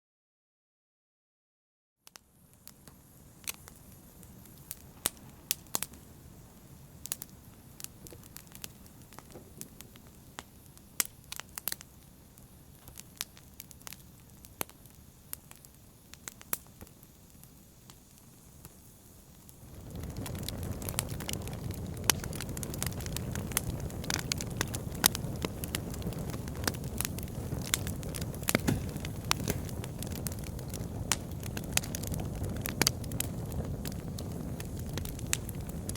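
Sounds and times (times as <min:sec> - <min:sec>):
wood fire crackling and popping: 0:02.0 - 0:35.9
low rushing fire noise: 0:02.3 - 0:35.9.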